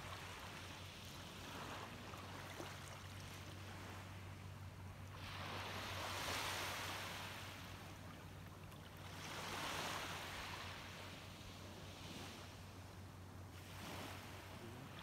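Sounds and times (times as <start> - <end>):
small waves on a beach: 0.0 - 15.0.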